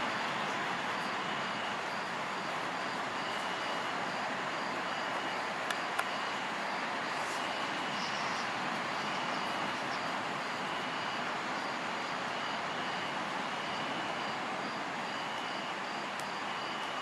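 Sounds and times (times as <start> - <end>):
insects chirping faintly: 0.0 - 17.0.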